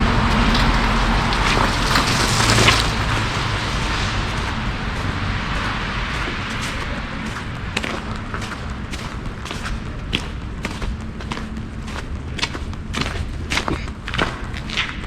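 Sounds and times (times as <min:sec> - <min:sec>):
traffic hiss: 0:00.0 - 0:15.0.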